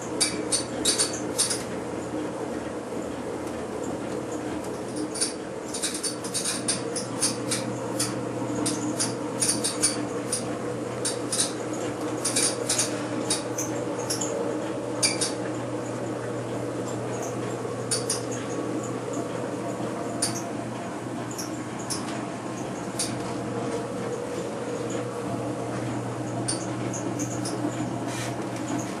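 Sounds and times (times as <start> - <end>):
gas furnace humming: 0.0 - 29.0.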